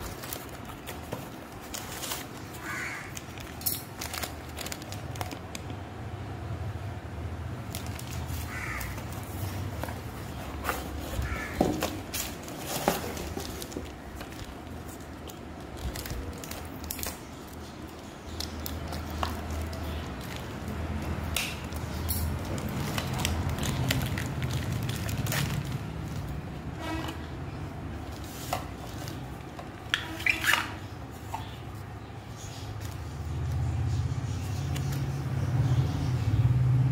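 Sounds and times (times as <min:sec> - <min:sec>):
plastic packaging crinkling: 0:00.0 - 0:05.8, 0:07.6 - 0:33.5.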